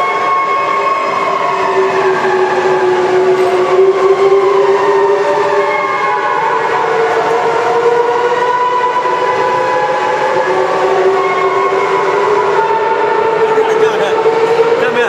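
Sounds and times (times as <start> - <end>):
industrial machine drone: 0.0 - 15.0.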